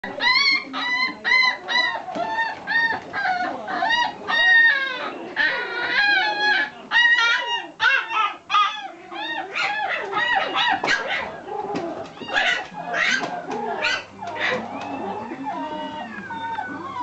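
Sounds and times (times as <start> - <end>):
puppies whining and squealing: 0.0 - 17.0.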